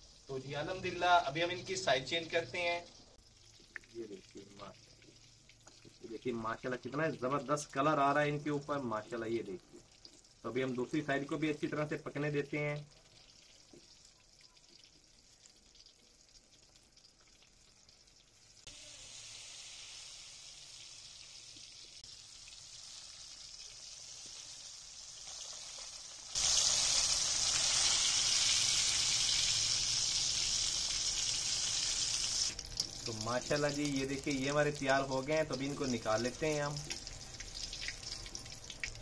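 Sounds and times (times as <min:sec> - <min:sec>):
deep-frying sizzle: 0:00.0 - 0:39.0.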